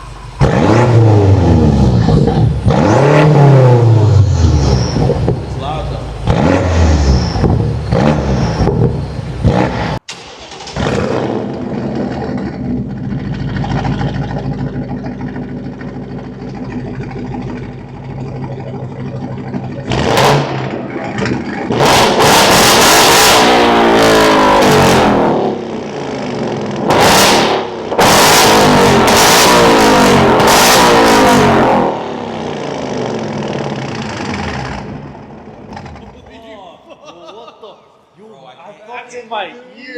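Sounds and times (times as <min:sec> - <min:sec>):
car engine idling and revving: 0:00.0 - 0:36.4.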